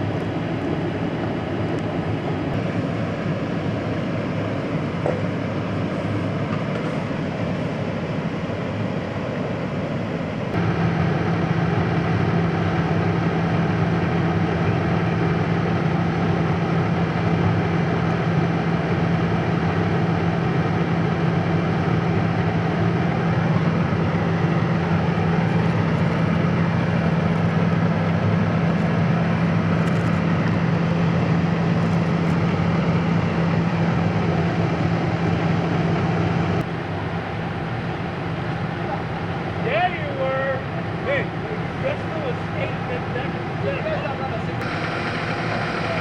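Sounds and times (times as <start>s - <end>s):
broad rushing noise: 0.0s - 46.0s
large engine idling: 0.0s - 46.0s.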